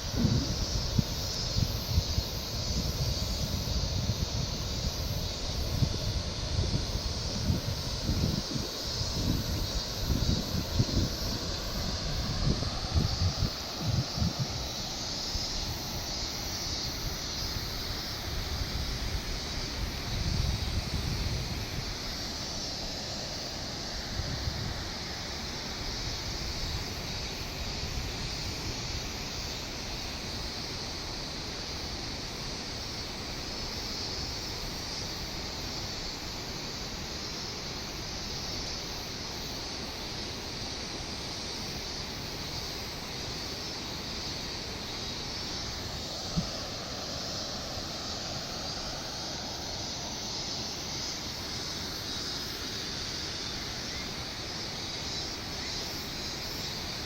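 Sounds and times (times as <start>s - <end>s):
steady outdoor rush with hiss: 0.0s - 57.0s.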